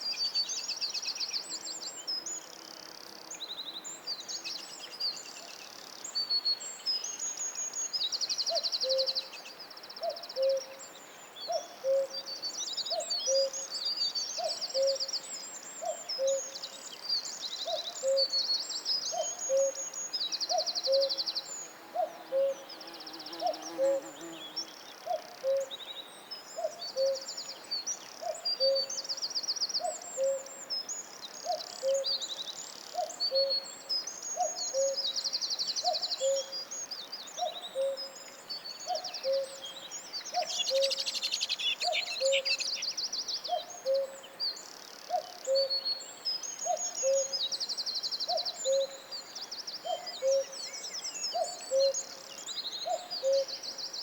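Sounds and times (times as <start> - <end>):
songbirds trilling and chirping: 1.4 - 54.0.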